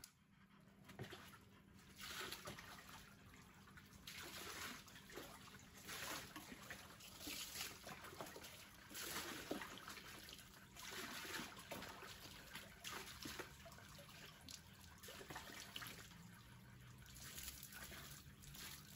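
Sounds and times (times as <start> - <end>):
water pouring over wet dog: 1.9 - 18.9
water splashing into tub: 2.0 - 18.9.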